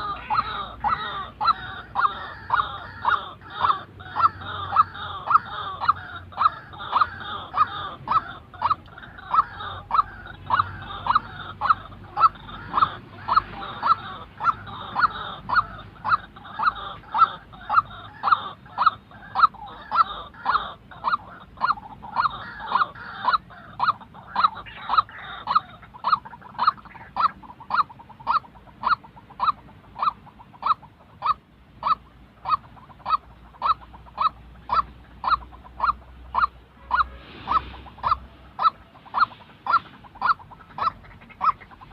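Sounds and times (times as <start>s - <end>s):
waterhen calling: 0.0s - 41.9s.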